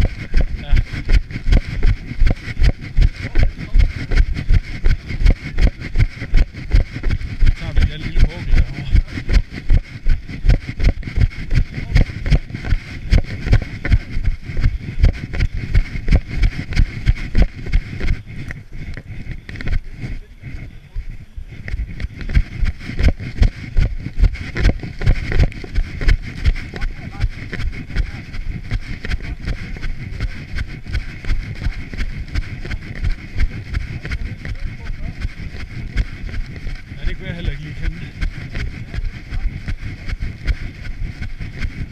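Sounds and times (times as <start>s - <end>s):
camera jostling: 0.0s - 41.9s
footsteps running on path: 0.0s - 41.9s
steady rushing hiss: 0.0s - 41.9s
wind rumble on microphone: 0.0s - 41.9s.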